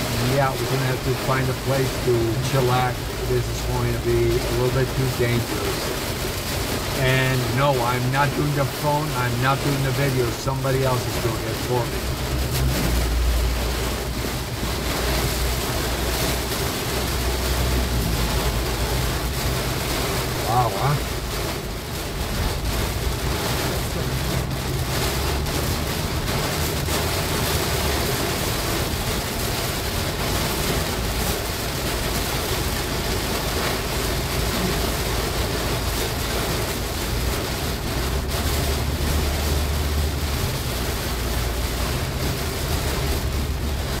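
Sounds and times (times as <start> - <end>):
engine and tyres rumbling: 0.0 - 44.0
rain on car roof: 0.0 - 44.0.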